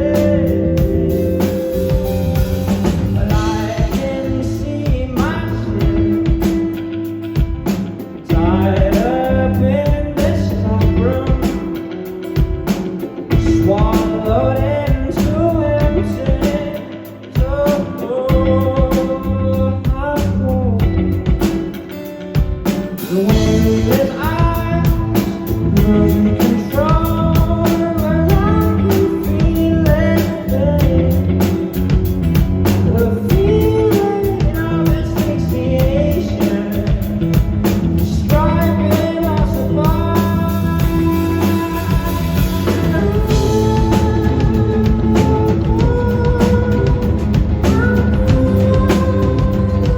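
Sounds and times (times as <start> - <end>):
live rock band playing: 0.0 - 49.9
man singing: 0.0 - 49.9.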